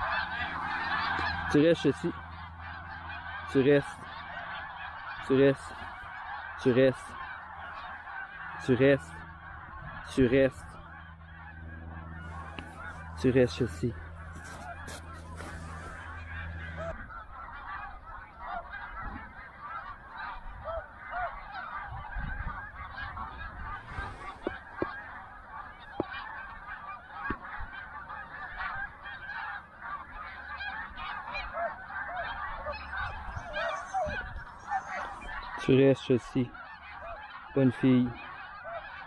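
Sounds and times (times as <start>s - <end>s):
flock of geese honking: 0.0s - 39.0s.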